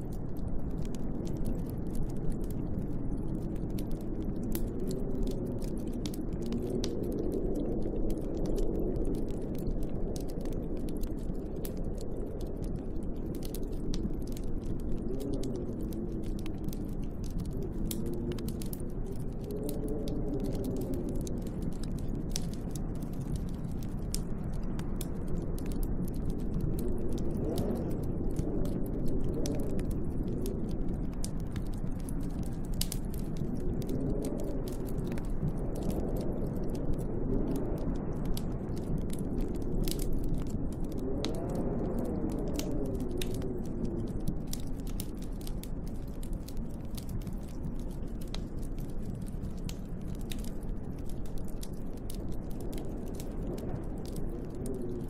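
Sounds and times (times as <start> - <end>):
moaning storm wind: 0.0 - 55.0
wood fire crackling and popping: 0.0 - 55.0.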